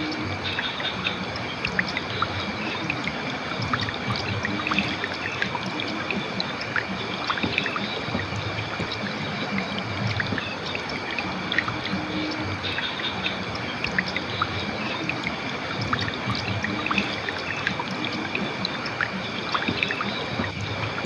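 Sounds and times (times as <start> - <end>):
river water flowing over rocks: 0.0 - 21.0
small splashes and drips: 0.0 - 21.0.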